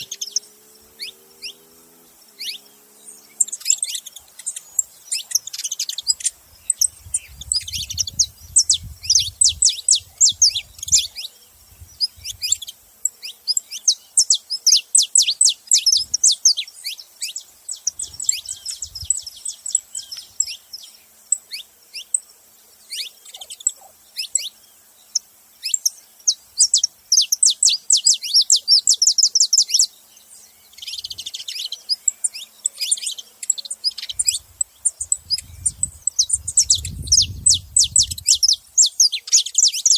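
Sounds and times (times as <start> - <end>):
finches calling and chattering: 0.0 - 39.9.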